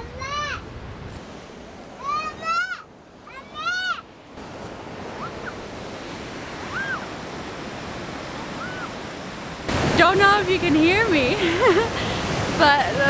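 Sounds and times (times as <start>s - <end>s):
waterfall rushing: 2.0s - 13.0s.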